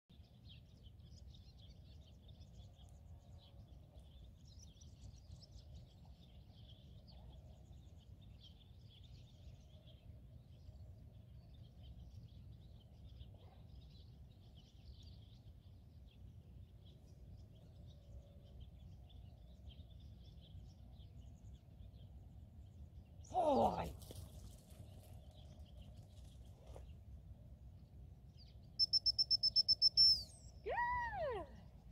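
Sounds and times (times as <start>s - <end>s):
faint bird chirping: 0.1s - 31.9s.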